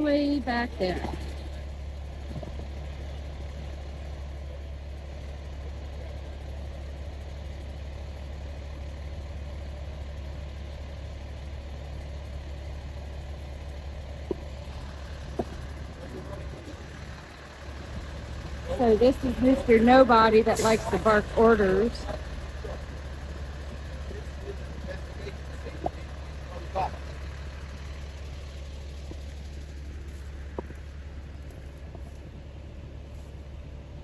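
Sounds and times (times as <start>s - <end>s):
diesel engines idling: 0.0s - 34.0s.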